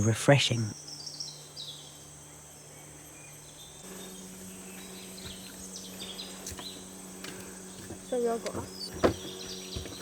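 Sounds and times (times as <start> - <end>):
high insect buzz: 0.0 - 10.0.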